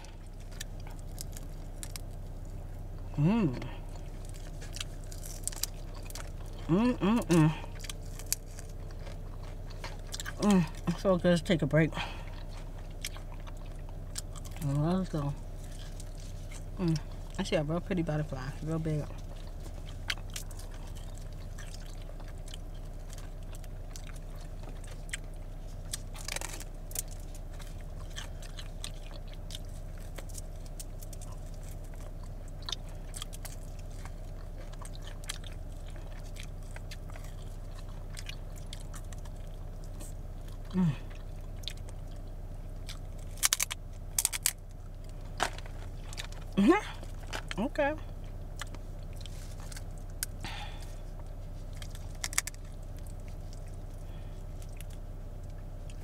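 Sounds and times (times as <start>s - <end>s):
chewing crunchy food: 0.0s - 56.0s
low car hum: 0.0s - 56.0s.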